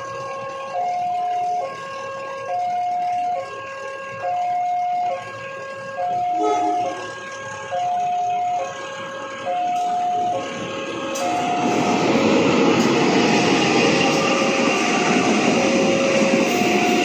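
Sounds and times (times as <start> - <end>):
train rumbling past: 0.0 - 17.0
two-tone level-crossing alarm: 0.0 - 17.0.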